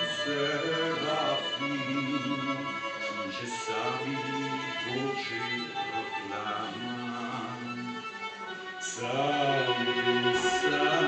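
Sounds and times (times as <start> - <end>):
solo violin long notes: 0.0 - 11.0.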